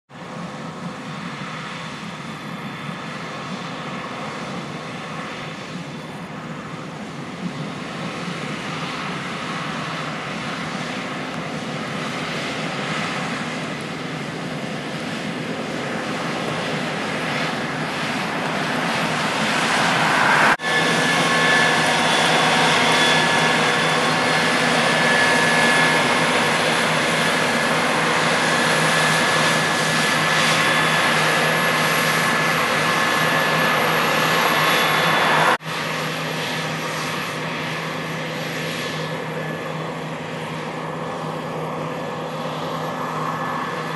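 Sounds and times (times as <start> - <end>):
combine harvester engine drone: 0.1 - 43.9.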